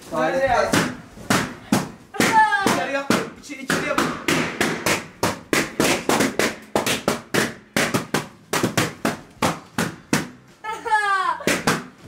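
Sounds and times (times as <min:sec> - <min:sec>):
balloons bursting: 0:00.6 - 0:10.6, 0:11.4 - 0:12.0.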